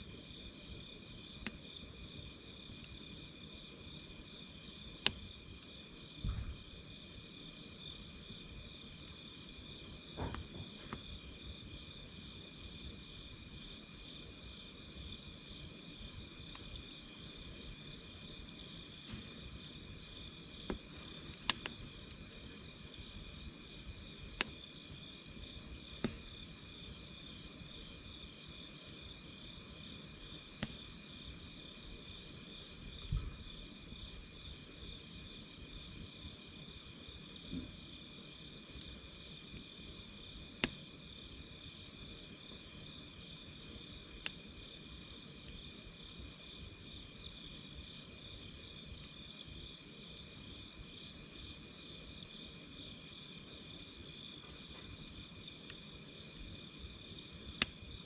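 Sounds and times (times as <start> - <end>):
insects chirping: 0.0 - 58.0
wood fire crackling pops: 0.0 - 58.0.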